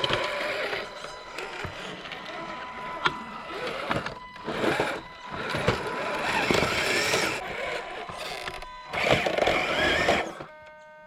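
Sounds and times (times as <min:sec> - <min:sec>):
electric motor and gears whining: 0:00.0 - 0:10.6.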